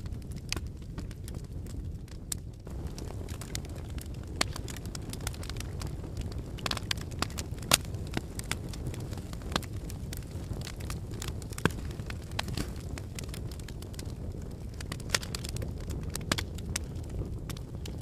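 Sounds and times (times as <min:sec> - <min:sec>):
low rumble of flames: 0:00.0 - 0:18.0
wood fire crackling: 0:00.0 - 0:18.0.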